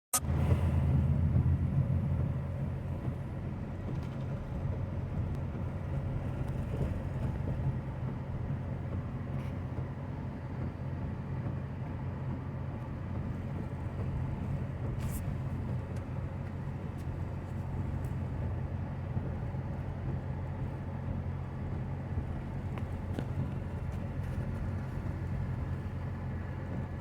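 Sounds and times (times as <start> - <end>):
vehicle engine rumbling: 0.1 - 27.0.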